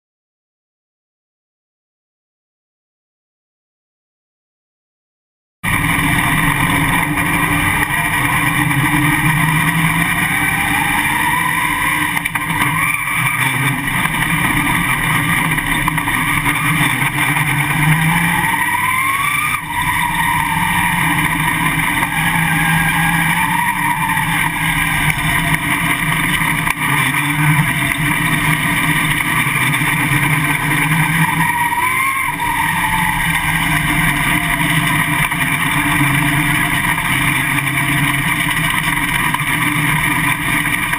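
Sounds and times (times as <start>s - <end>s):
race car engine revving: 5.6s - 40.9s.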